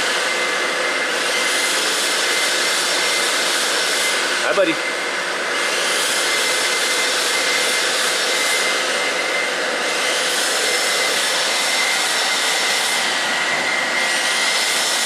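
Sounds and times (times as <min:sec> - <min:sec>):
fan rushing: 0:00.0 - 0:15.0.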